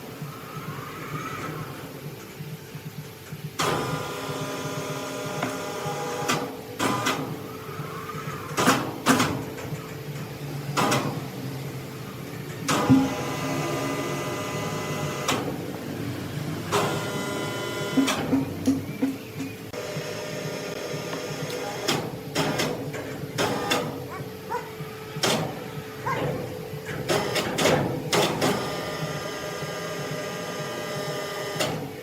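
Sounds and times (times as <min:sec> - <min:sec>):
sawmill machinery running: 0:00.0 - 0:32.0.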